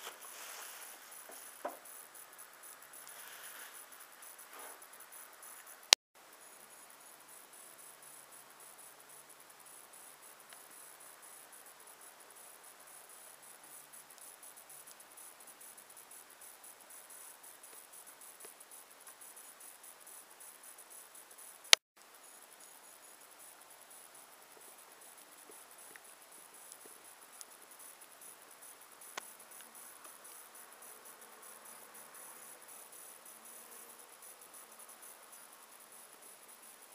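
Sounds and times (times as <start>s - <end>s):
faint steady hiss: 0.0s - 36.9s.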